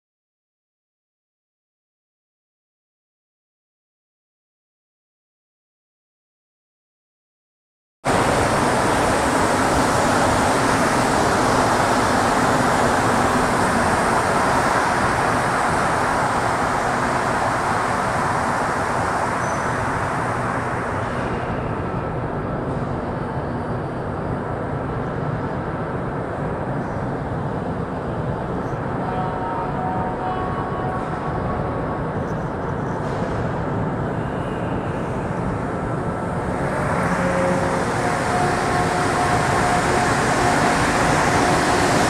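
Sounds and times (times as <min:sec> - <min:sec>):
metro train pulling in: 0:08.1 - 0:42.0.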